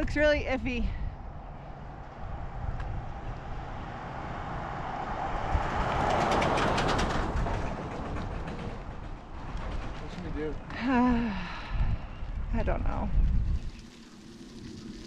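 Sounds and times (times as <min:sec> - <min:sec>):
wind: 0:00.0 - 0:15.0
bicycle tyres rumbling: 0:01.0 - 0:15.0.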